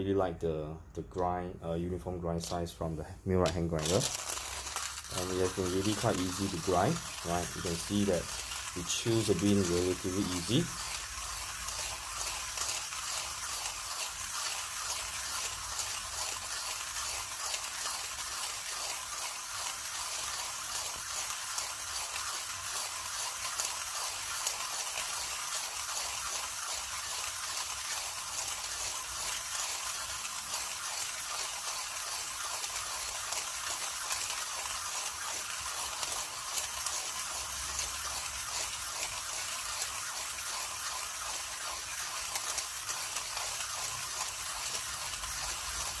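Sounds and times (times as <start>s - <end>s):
hand grinder crushing coffee beans: 2.1s - 46.0s.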